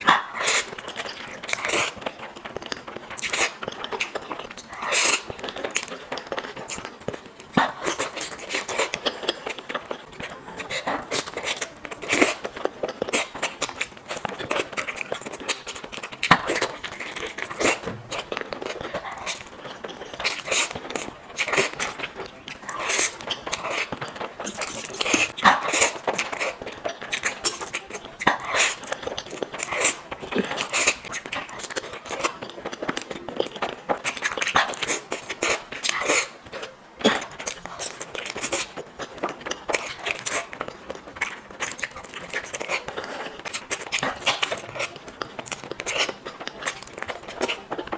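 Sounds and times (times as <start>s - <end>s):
biting and chewing: 0.0s - 47.9s.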